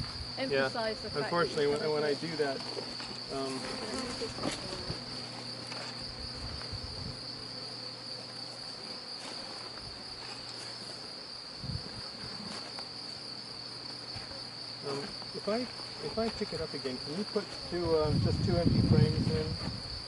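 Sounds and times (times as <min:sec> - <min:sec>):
bees buzzing: 0:00.0 - 0:20.0
insect trill: 0:00.0 - 0:20.0.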